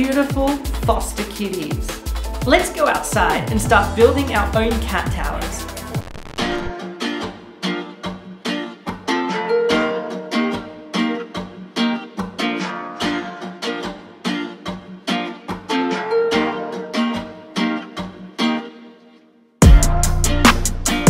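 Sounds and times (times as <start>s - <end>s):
guitar strumming: 1.7s - 21.0s.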